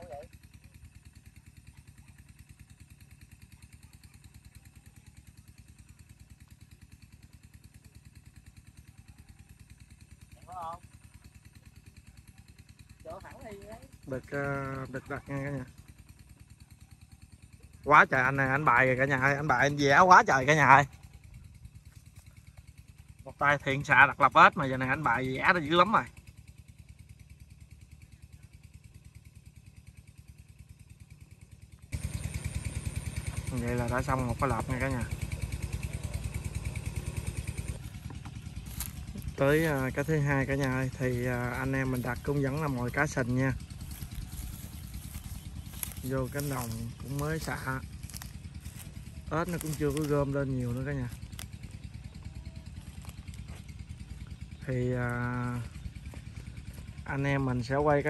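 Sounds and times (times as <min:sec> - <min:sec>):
small engine idling: 0:00.0 - 0:58.0.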